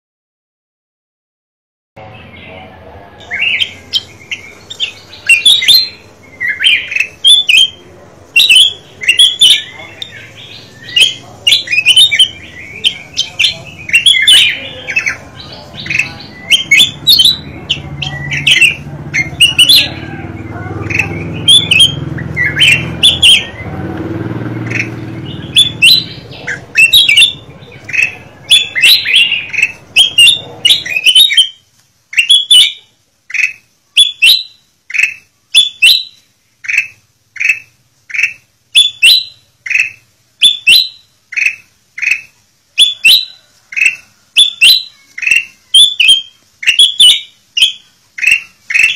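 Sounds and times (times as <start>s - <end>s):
bird chirping: 2.0s - 48.9s.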